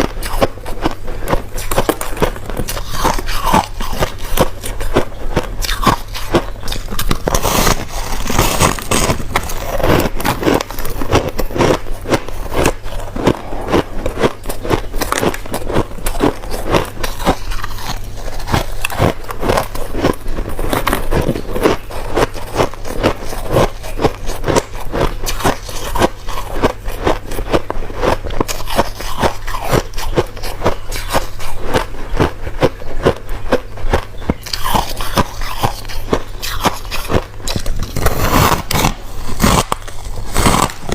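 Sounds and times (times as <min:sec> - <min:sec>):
person chewing crushed ice: 0:00.0 - 0:40.9
steady low hum: 0:00.0 - 0:40.9.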